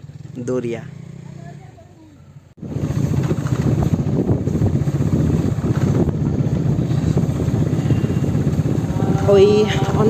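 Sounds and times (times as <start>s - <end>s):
motorbike engine rumbling: 0.0s - 10.0s.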